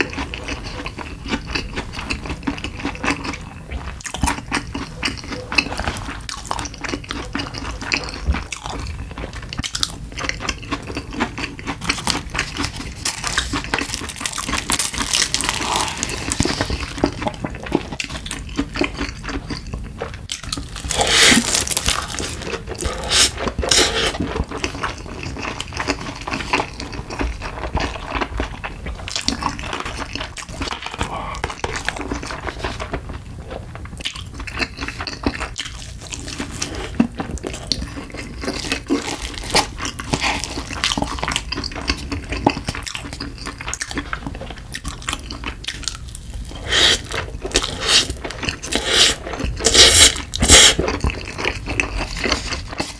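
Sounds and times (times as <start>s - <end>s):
fried food bitten and chewed: 0.0s - 52.9s
noodles slurped and chewed: 0.0s - 52.9s.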